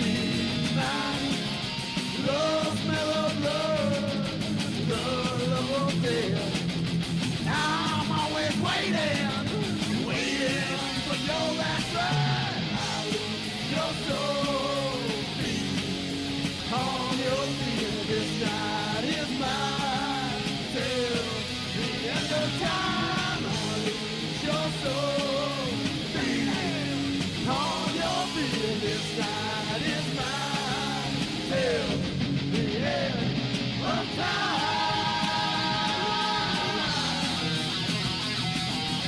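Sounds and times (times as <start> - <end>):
punk rock song: 0.0 - 39.0.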